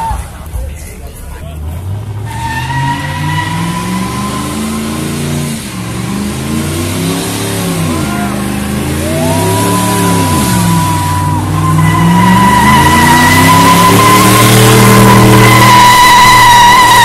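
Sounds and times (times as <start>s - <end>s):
spinning tyres squealing: 1.7s - 17.0s
van engine revving hard: 1.7s - 17.0s.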